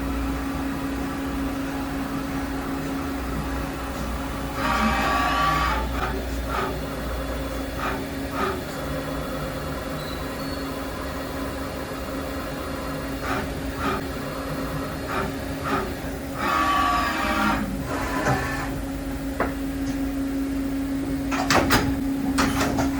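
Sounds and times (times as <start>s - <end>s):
machine steady hum: 0.0s - 22.9s.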